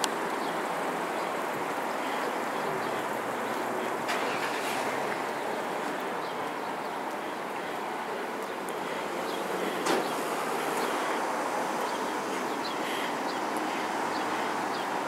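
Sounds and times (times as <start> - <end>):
traffic rush: 0.0 - 15.0.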